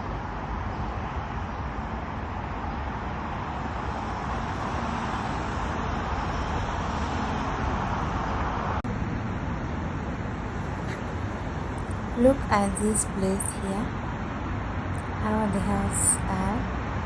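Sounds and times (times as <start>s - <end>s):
city street traffic: 0.1s - 17.0s.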